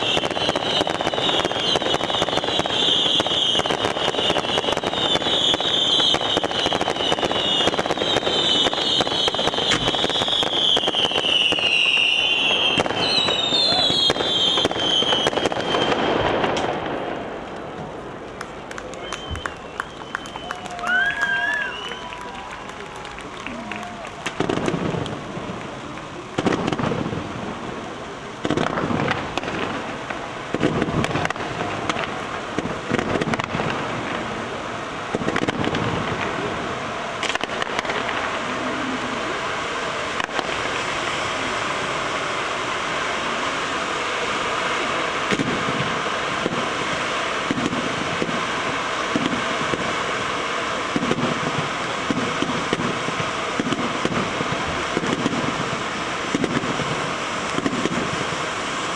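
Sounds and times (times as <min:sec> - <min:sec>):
scattered firework pops: 0:00.0 - 0:36.5, 0:37.2 - 0:38.5, 0:40.1 - 0:41.2, 0:45.2 - 0:50.2, 0:50.9 - 0:58.9
firework fountains hissing: 0:00.0 - 0:58.9
fireworks bangs: 0:00.0 - 0:58.9.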